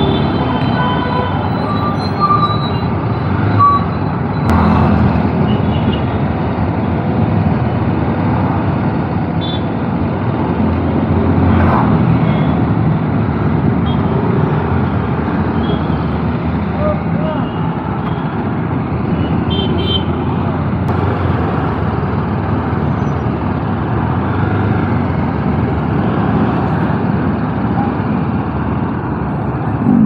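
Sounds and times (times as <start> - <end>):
road and traffic noise: 0.0 - 30.0.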